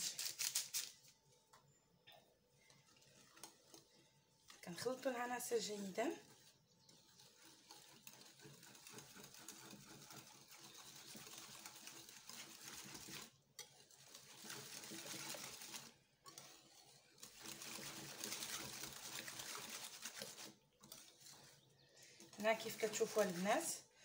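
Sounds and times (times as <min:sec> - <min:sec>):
whisk scraping bowl: 0:02.6 - 0:24.0.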